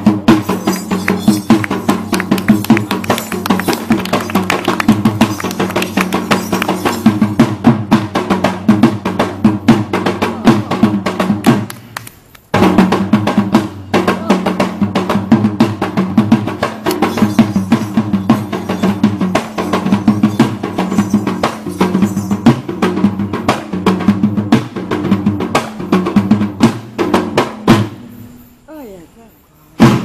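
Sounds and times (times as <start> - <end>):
fast hand drumming: 0.0 - 11.8, 12.5 - 27.8.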